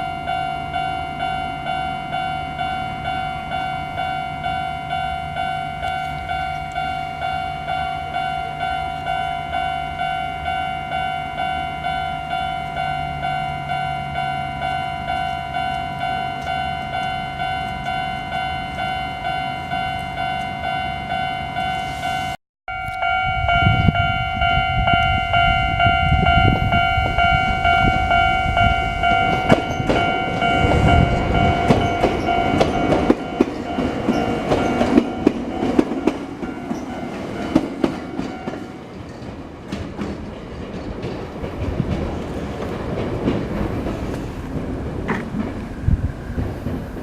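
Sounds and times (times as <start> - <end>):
train rumbling on rails: 0.0 - 47.0
rail joint clicks: 0.2 - 47.0.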